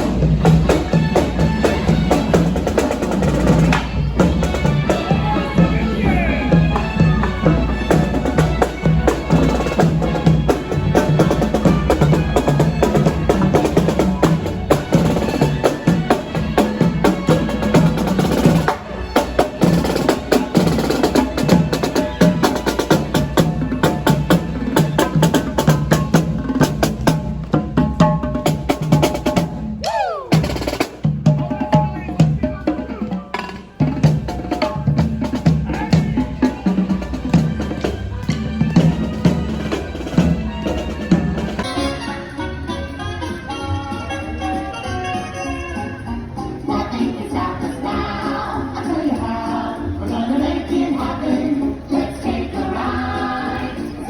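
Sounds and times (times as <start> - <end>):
music with drums and percussion: 0.0 - 54.0.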